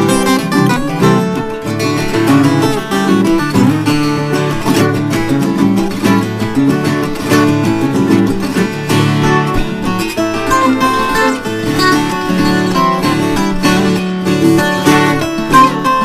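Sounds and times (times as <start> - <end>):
folk guitars picking and strumming: 0.0 - 16.0.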